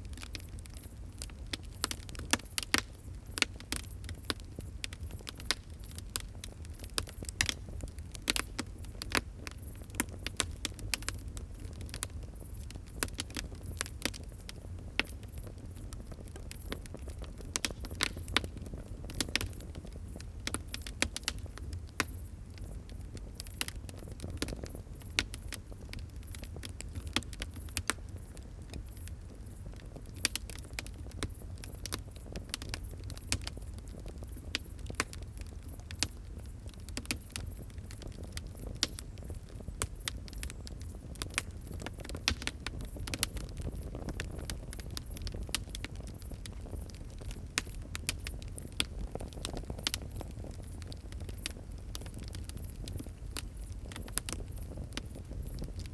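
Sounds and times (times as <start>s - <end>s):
fire crackling: 0.0s - 55.9s.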